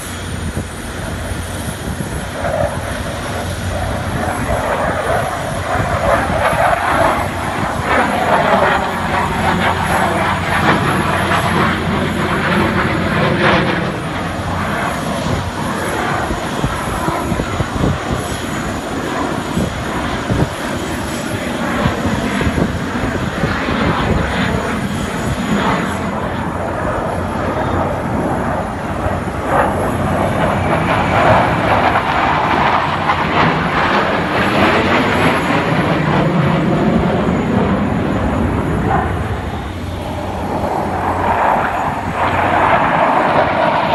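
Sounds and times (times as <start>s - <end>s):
jet engine roar: 0.0s - 43.9s.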